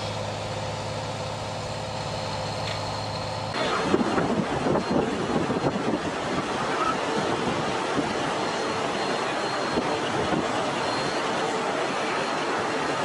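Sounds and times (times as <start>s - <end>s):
tractor engines under load: 0.0s - 13.0s.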